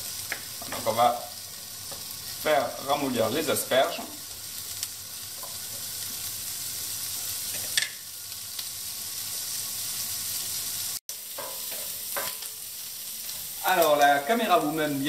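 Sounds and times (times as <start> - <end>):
asparagus sizzling in butter: 0.0 - 15.0.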